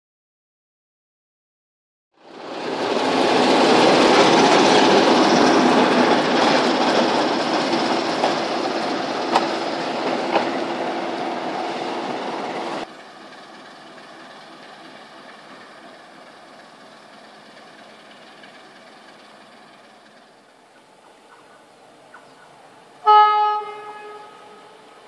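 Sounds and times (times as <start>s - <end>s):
diesel locomotive running: 2.2s - 25.0s.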